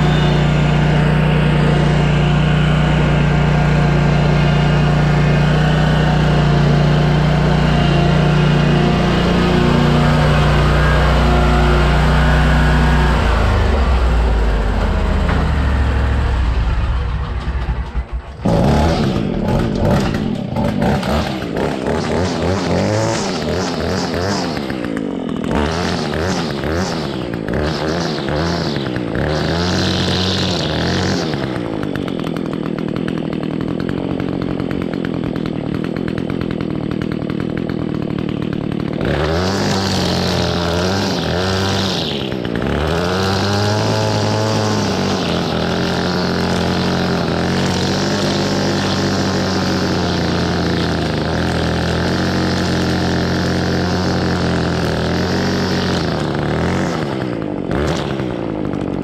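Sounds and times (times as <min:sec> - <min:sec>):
string trimmer engine revving: 0:00.0 - 0:59.0.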